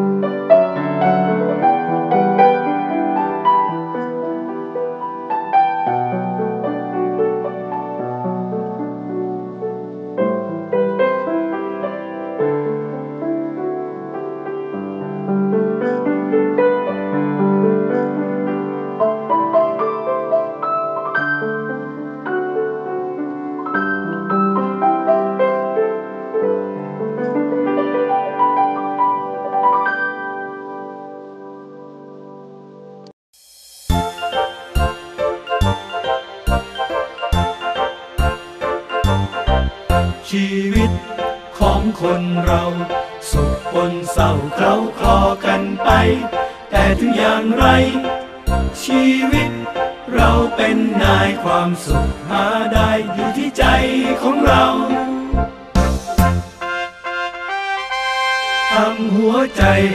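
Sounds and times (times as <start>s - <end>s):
piano music: 0.0s - 33.1s, 33.9s - 59.9s.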